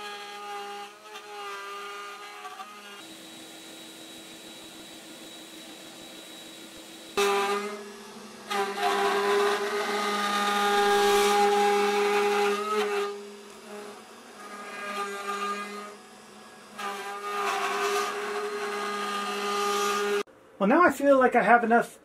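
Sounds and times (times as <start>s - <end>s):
router spindle cutting wood: 0.0s - 20.3s.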